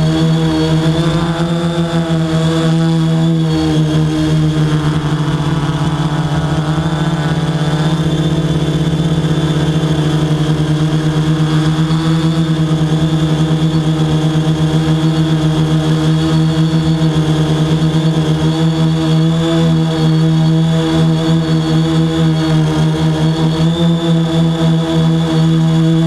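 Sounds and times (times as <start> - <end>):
drone motors humming: 0.0 - 26.0.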